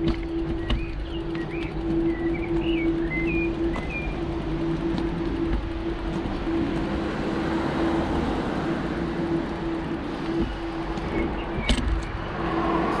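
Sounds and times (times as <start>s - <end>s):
constant hum: 0.0s - 13.0s
sharp clicks and rattles: 0.0s - 13.0s
wind noise on microphone: 0.0s - 13.0s.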